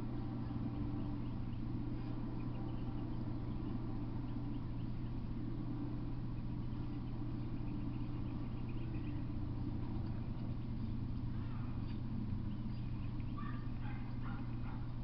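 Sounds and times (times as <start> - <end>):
bird chirps: 0.0 - 15.0
low hum: 0.0 - 15.0.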